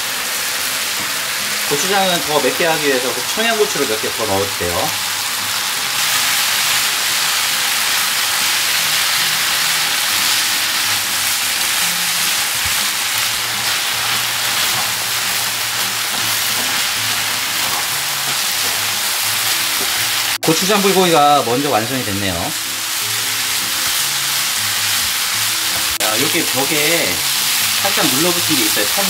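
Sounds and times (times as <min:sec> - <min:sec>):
meat sizzling in a frying pan: 0:00.0 - 0:29.0.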